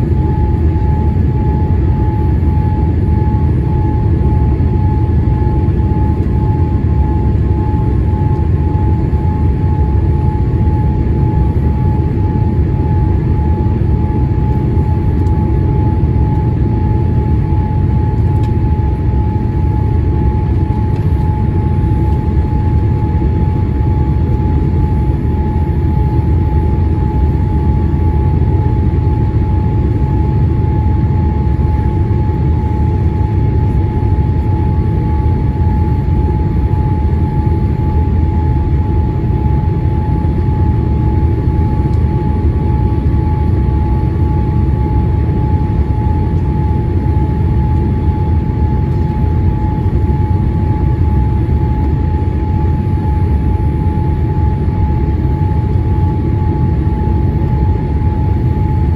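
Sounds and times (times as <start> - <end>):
airflow and engine rumble: 0.0 - 58.9.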